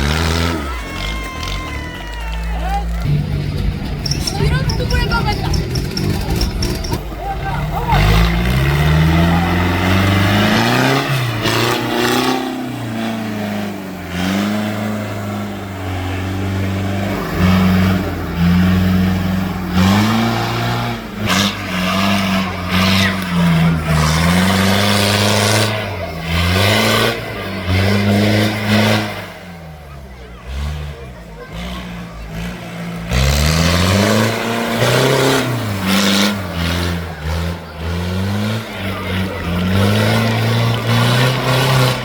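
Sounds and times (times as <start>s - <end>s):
tractor engine revving: 0.0s - 42.0s.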